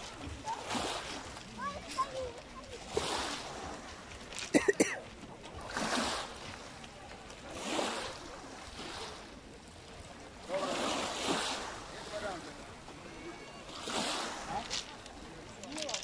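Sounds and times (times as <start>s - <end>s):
waves washing onto pebble beach: 0.0s - 16.0s.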